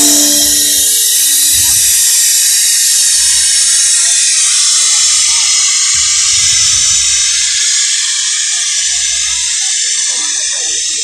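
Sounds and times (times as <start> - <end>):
loud harsh hiss: 0.0 - 11.0.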